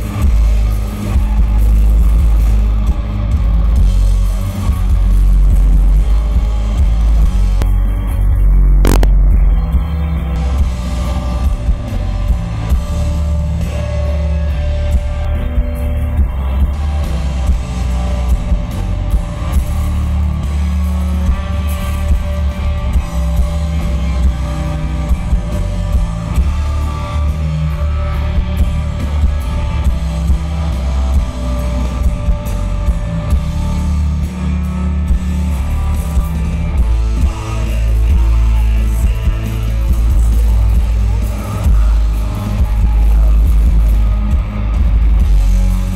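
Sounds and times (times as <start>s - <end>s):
bass guitar: 0.0s - 45.9s
distorted electric guitars: 0.0s - 45.9s
drum kit: 0.0s - 45.9s.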